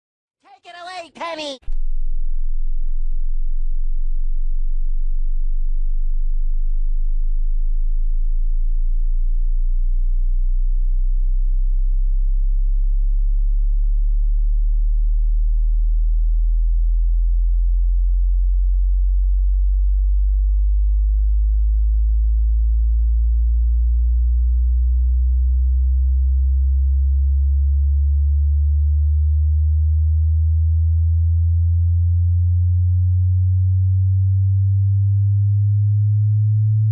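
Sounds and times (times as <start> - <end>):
low electronic sine drone: 1.7 - 36.9.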